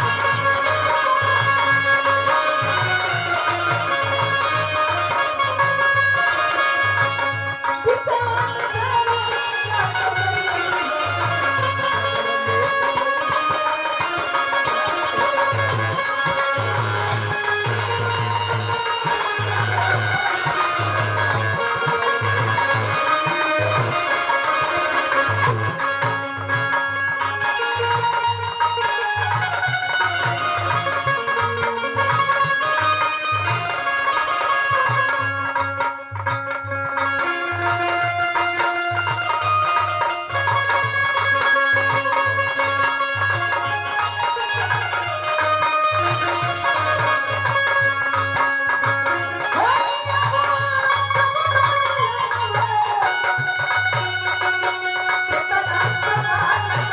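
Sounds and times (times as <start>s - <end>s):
stringed instrument melody: 0.0s - 56.9s.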